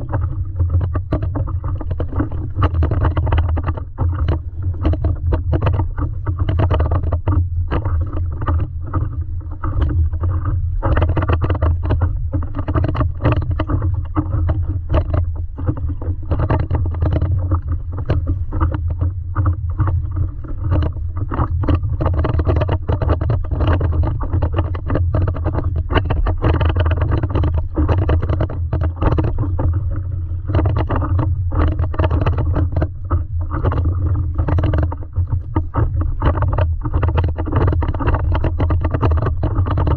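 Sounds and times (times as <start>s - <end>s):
low rumble: 0.0s - 39.9s
water splashing against paddleboard: 0.0s - 39.9s.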